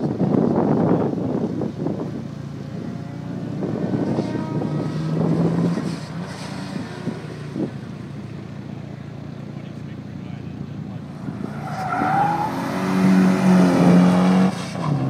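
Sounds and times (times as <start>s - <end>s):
car engine revving: 2.1s - 15.0s.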